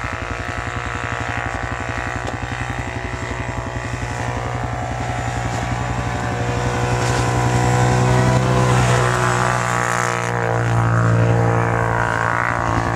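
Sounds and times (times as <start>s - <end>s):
quad bike engine running: 0.0s - 12.9s.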